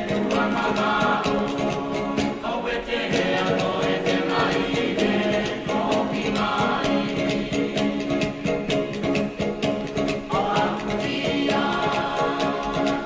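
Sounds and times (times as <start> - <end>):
choir singing over percussive beat: 0.0 - 13.0.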